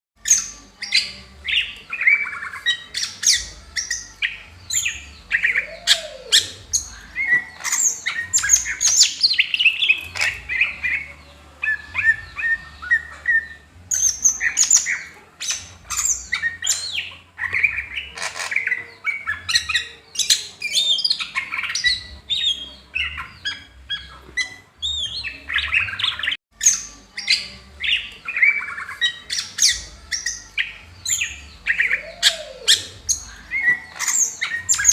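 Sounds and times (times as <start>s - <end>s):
bird singing varied chirps: 0.2s - 34.9s.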